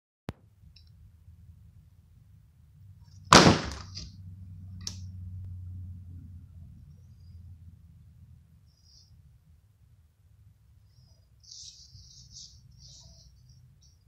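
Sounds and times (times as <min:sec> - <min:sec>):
low steady hum: 0:00.3 - 0:14.0.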